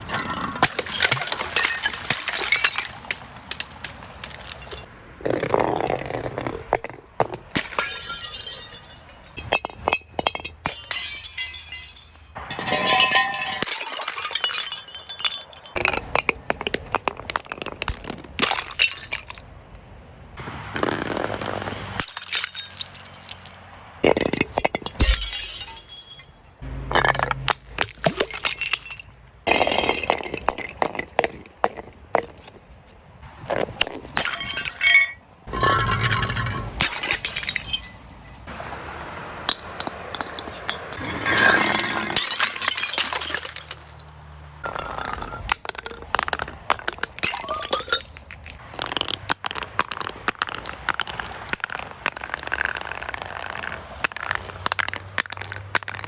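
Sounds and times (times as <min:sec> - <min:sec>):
glass breaking and clinking: 0:00.1 - 0:05.9, 0:07.2 - 0:19.5, 0:22.0 - 0:32.4, 0:33.6 - 0:38.5, 0:39.5 - 0:51.0.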